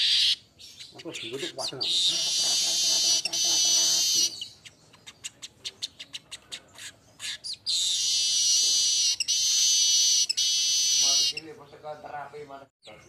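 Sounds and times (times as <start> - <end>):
birds buzzing trill: 0.0 - 13.0.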